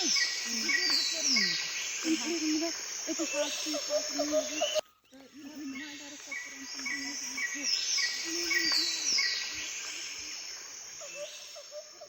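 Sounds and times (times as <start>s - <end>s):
bird chirping: 0.0s - 12.0s
insects trilling: 0.0s - 12.0s.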